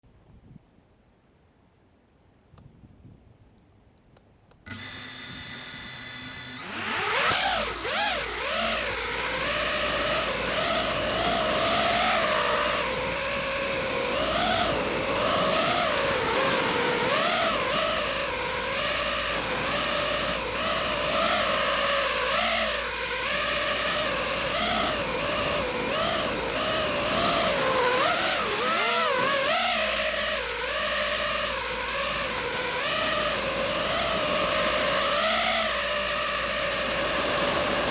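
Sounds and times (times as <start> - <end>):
quadcopter motors humming: 4.2 - 37.9.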